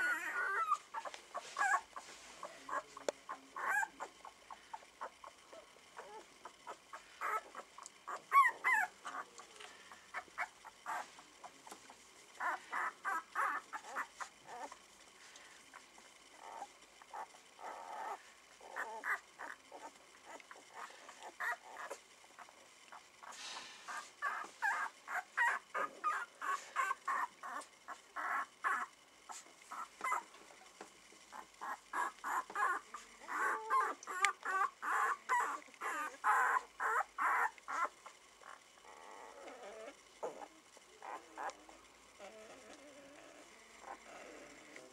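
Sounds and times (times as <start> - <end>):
puppies squeaking and whimpering: 0.0 - 11.2, 12.4 - 14.8, 16.4 - 22.5, 23.2 - 30.4, 31.3 - 44.9.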